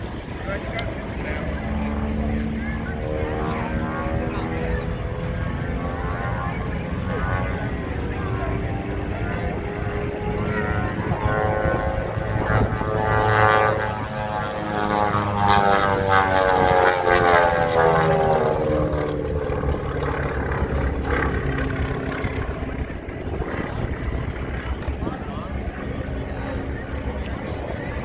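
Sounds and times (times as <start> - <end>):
propeller airplane flying past: 0.0 - 28.0.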